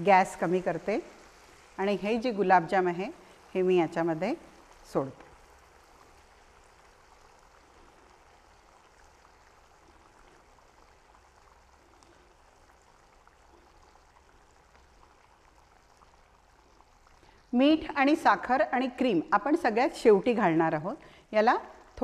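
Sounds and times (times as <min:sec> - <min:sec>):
gravy simmering with bubbling pops: 0:00.0 - 0:22.0.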